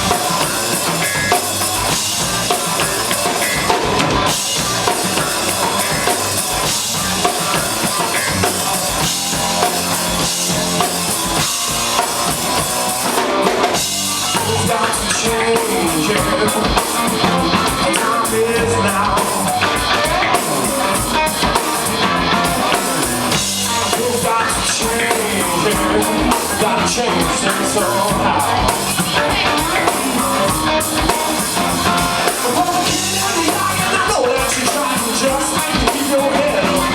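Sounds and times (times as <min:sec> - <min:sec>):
drum kit: 0:00.0 - 0:36.9
electric bass: 0:00.0 - 0:36.9
electric guitar: 0:00.0 - 0:36.9
rock band playing: 0:00.0 - 0:36.9.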